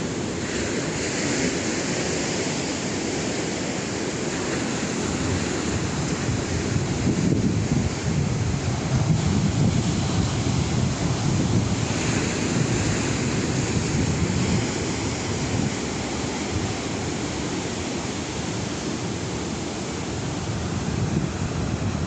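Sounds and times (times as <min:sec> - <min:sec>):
sea waves washing on shore: 0:00.0 - 0:22.0
wind rumbling on microphone: 0:00.0 - 0:22.0.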